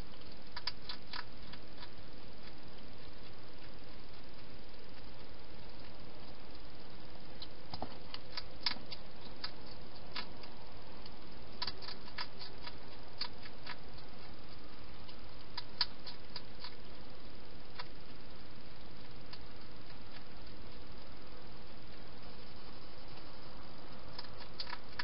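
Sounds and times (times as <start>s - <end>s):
hedgehog crunching food: 0.0s - 25.0s
steady hiss: 0.0s - 25.0s.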